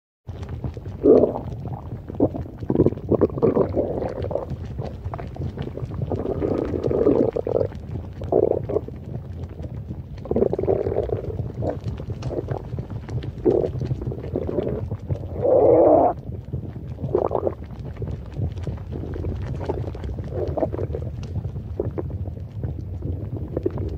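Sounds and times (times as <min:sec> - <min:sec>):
stomach churning: 0:00.2 - 0:23.9
stomach rumbling: 0:00.3 - 0:23.9.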